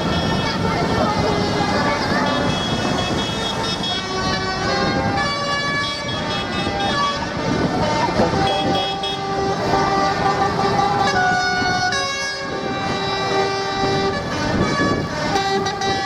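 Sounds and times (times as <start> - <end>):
tractor horns tooting: 0.0 - 16.0.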